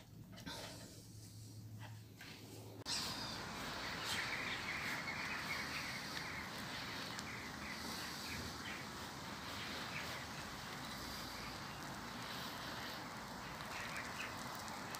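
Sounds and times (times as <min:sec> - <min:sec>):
steady background hiss: 0:00.0 - 0:14.9
birds chirping: 0:02.8 - 0:14.9.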